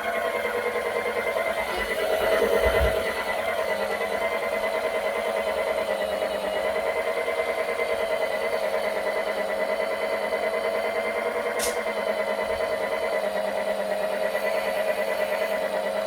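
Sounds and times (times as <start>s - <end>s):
wet-mop cleaner motor humming: 0.0s - 16.0s.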